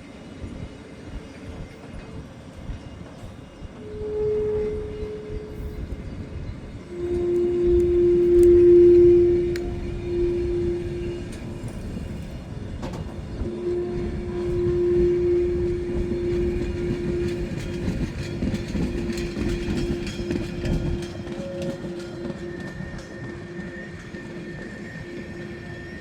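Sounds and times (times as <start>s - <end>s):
train wheels rumbling and clattering: 0.0s - 26.0s
train whistle: 3.8s - 6.1s, 6.8s - 26.0s.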